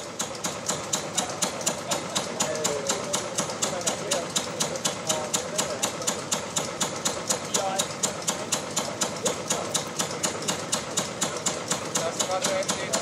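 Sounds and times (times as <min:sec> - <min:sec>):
machine clicking rhythmically: 0:00.0 - 0:13.0
chatter of voices: 0:00.7 - 0:13.0.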